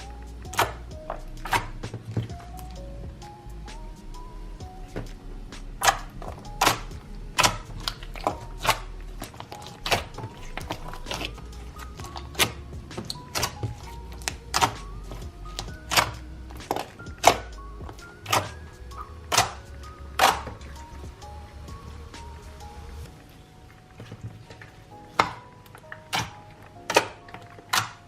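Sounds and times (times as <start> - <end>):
music with steady beat: 0.0 - 28.0.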